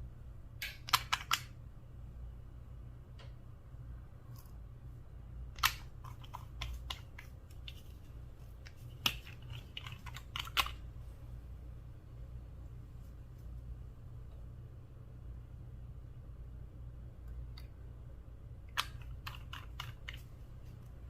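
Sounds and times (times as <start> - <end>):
faint low steady hum: 0.0 - 21.0.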